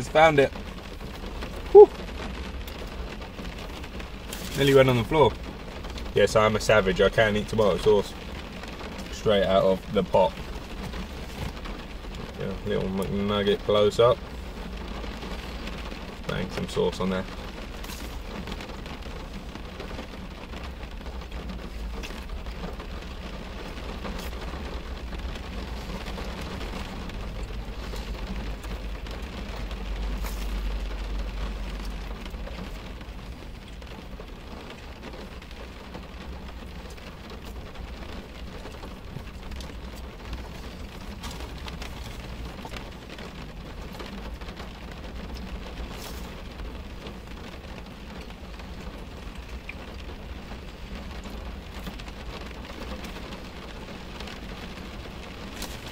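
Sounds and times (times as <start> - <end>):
rain on car roof: 0.0 - 55.9
sharp raindrop clicks: 0.0 - 55.9.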